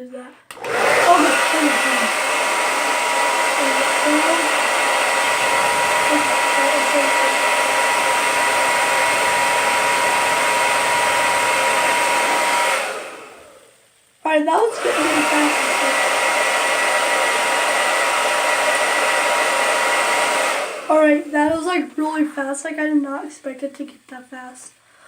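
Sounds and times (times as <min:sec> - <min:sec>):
hair dryer running: 0:00.5 - 0:22.0.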